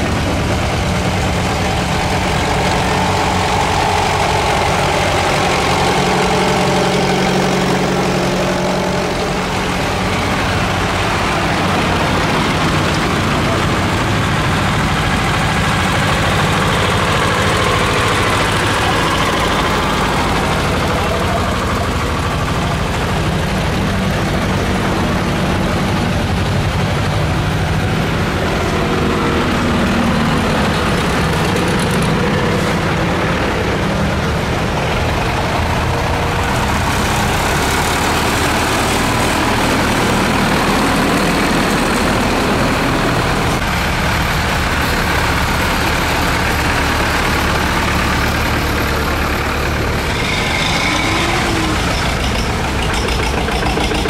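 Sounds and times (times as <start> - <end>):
tractor diesel engines passing: 0.0 - 54.0.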